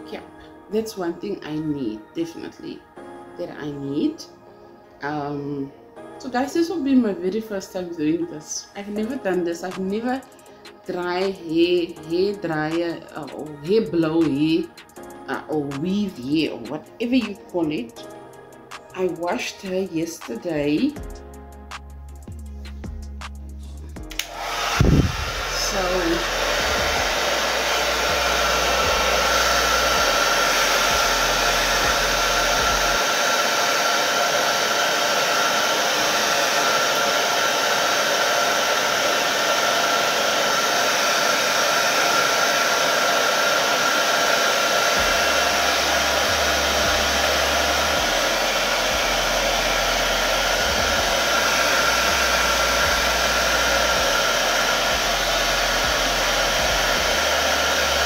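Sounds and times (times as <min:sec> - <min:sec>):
hair dryer blowing air: 0:06.3 - 0:21.2, 0:24.0 - 0:58.0.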